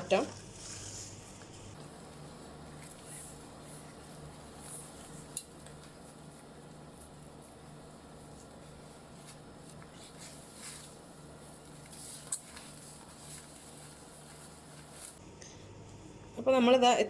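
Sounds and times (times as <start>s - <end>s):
pastry strands rustling: 0.0s - 15.3s
low steady hum: 0.0s - 17.0s.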